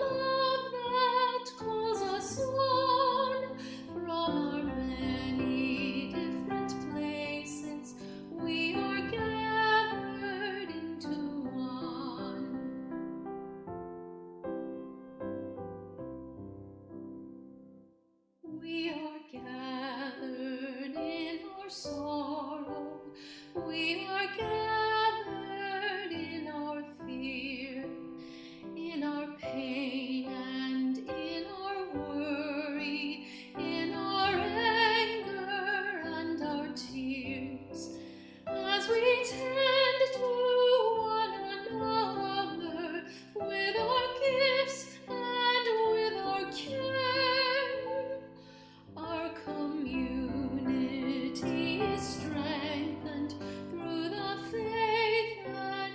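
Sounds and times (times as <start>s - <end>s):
woman singing with vibrato: 0.0s - 12.6s, 18.6s - 27.9s, 28.8s - 38.0s, 38.6s - 48.2s, 49.0s - 55.9s.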